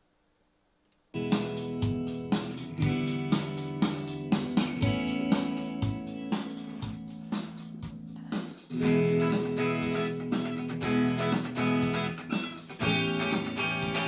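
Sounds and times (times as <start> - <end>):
strummed guitar music: 1.2 - 14.0.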